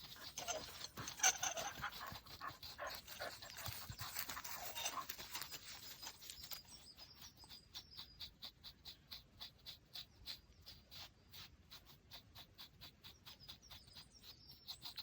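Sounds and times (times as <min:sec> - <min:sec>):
dog panting: 0:00.0 - 0:15.0
faint birds chirping: 0:00.0 - 0:15.0.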